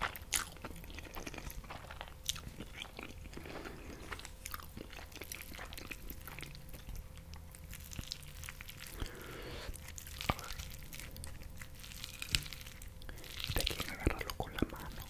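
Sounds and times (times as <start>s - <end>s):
close chewing: 0.0s - 15.0s.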